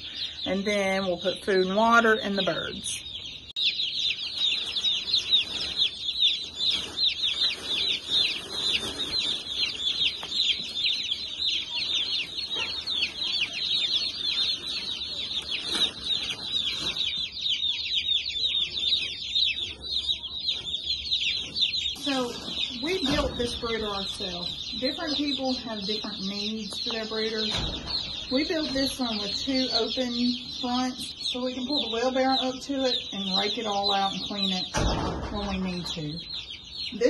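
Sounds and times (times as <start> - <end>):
chicks peeping: 0.0 - 37.0.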